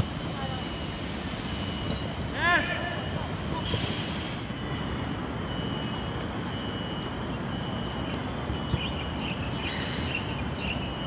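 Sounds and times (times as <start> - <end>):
faint high steady tones: 0.0 - 11.0.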